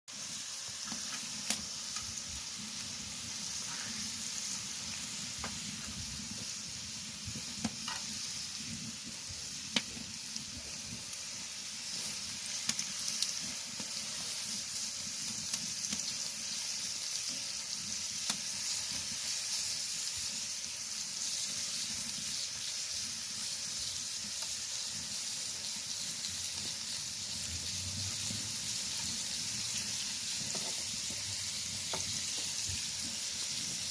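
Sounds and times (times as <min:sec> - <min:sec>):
meat sizzling on a griddle: 0:00.1 - 0:33.9.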